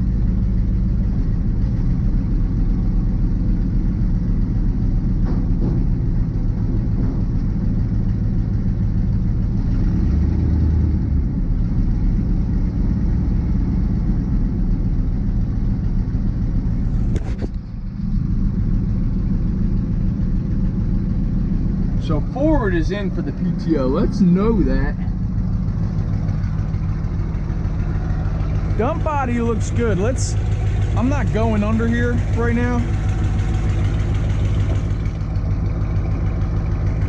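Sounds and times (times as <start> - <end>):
diesel engine idling: 0.0 - 37.0
engine knock: 0.0 - 37.0.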